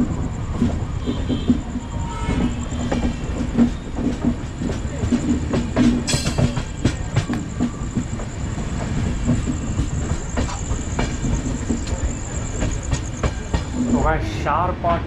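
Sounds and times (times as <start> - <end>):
train rumbling on the track: 0.0 - 15.0
wheels clacking over rail joints: 0.1 - 14.1.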